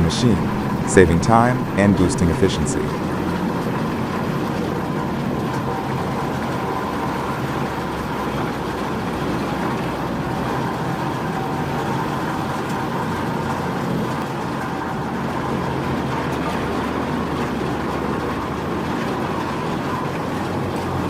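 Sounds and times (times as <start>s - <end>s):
wood shredder running: 0.0s - 21.0s.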